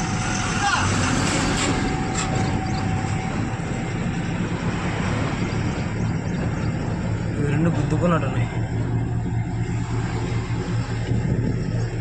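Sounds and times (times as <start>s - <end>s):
road noise rumble: 0.0s - 12.0s
truck engine hum: 0.0s - 12.0s.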